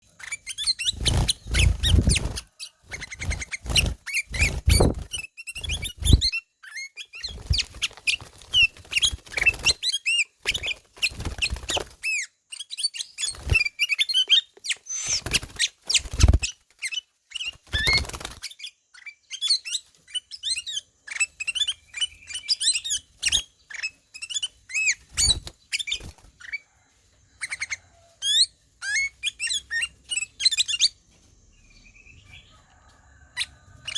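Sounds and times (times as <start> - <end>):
bird whistling song: 0.1 - 26.6, 27.4 - 31.0.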